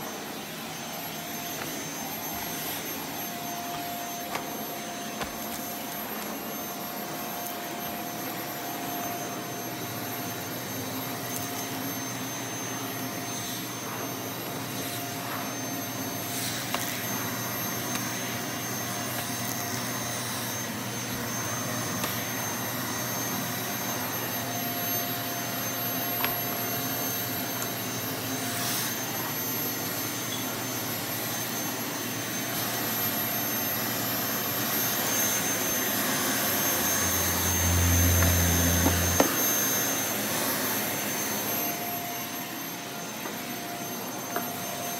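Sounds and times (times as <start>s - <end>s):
vacuum cleaner running: 0.0s - 44.9s.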